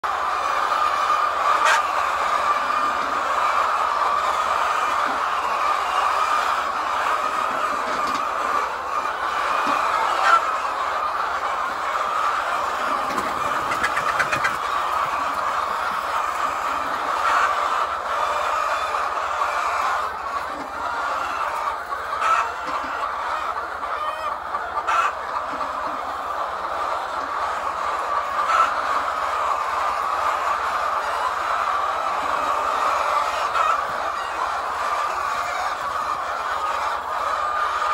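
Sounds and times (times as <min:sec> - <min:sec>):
hens clucking: 0:00.0 - 0:37.9.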